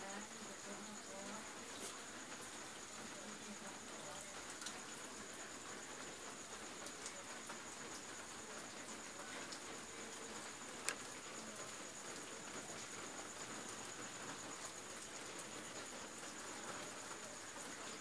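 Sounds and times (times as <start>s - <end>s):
faint hiss: 0.0s - 18.0s.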